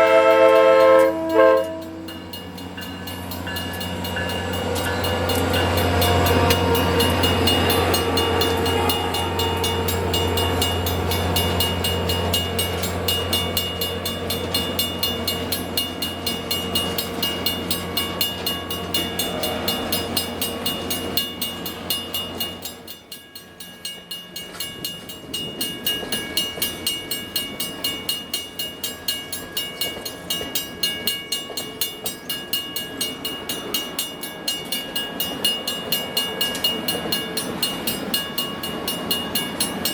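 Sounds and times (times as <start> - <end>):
locomotive engine hum: 0.0 - 39.9
train wheels clacking on rail joints: 0.0 - 39.9.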